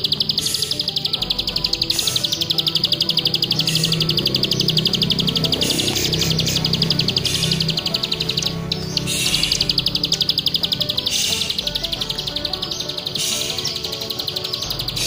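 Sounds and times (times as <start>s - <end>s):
bird singing a rapid clicky trill: 0.0s - 15.0s.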